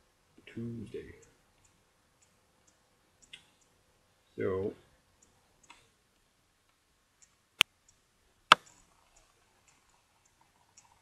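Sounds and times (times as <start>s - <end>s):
faint ticks: 0.3s - 3.8s, 5.1s - 11.0s.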